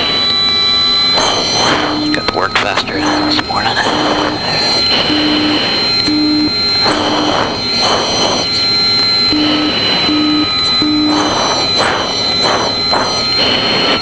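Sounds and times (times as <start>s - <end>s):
cockpit noise: 0.0s - 14.0s
short low beeps: 0.0s - 14.0s
thin high whine: 0.0s - 14.0s.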